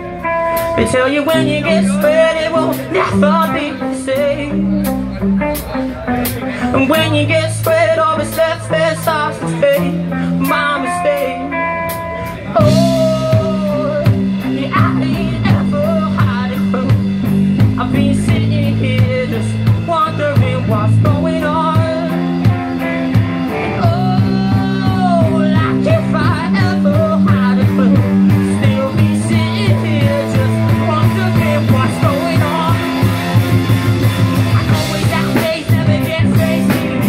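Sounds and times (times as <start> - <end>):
bending electric guitar lead: 0.0 - 37.0
live rock band playing: 0.0 - 37.0.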